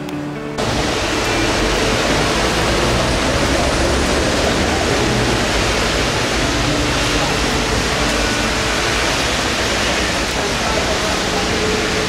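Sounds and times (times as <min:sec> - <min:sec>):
heavy rain on street: 0:00.6 - 0:12.0
traffic on wet road: 0:00.6 - 0:12.0.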